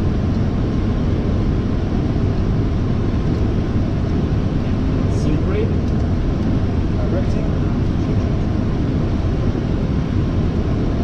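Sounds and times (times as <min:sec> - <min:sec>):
airflow rushing over cockpit: 0:00.0 - 0:11.0
jet engines droning: 0:00.0 - 0:11.0.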